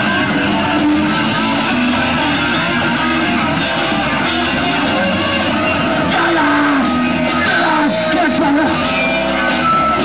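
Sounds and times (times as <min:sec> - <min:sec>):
distorted electric guitar: 0:00.0 - 0:10.0
drum kit: 0:00.0 - 0:10.0.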